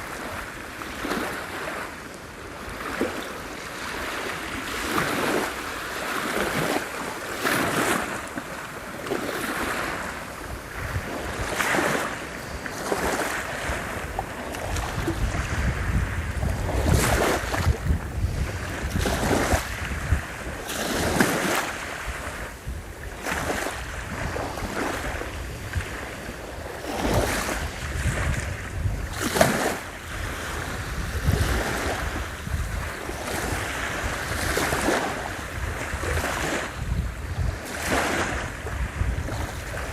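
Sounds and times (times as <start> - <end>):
surf breaking on shore: 0.0 - 39.9
wind buffeting microphone: 2.4 - 39.9.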